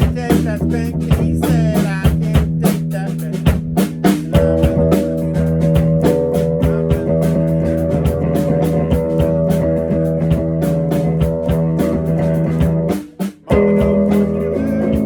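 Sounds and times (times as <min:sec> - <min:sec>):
rock music with guitar bass and drums: 0:00.0 - 0:15.0.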